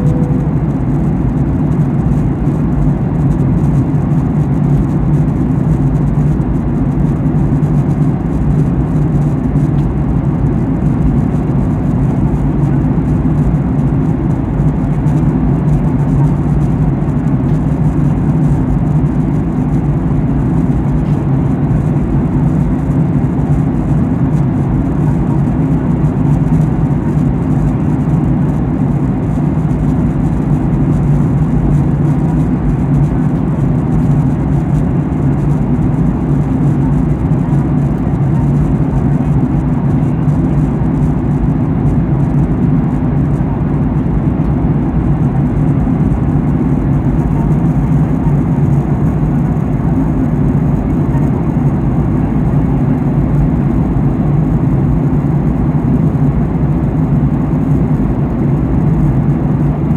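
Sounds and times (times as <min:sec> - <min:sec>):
airplane cabin drone: 0:00.0 - 0:59.9.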